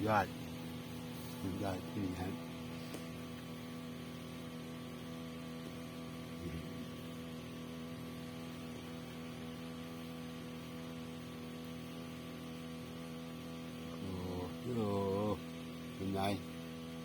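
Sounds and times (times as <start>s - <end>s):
low hum of even tones: 0.0s - 17.0s.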